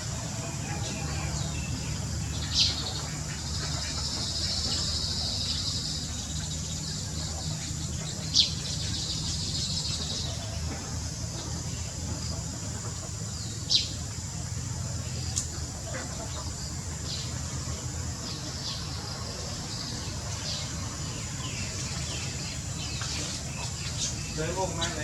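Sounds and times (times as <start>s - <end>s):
insects trilling: 0.0s - 25.0s
bird chirp: 0.5s - 25.0s.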